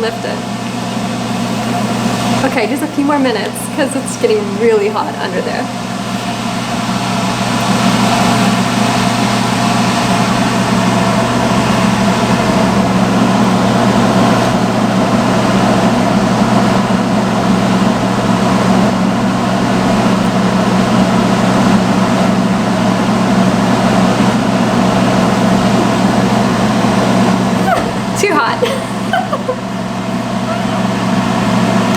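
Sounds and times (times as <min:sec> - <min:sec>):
hood hair dryer blowing air: 0:00.0 - 0:31.9.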